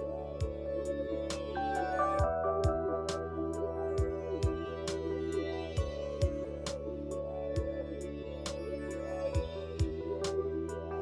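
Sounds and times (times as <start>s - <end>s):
bass line: 0.0s - 11.0s
held chords: 0.0s - 11.0s.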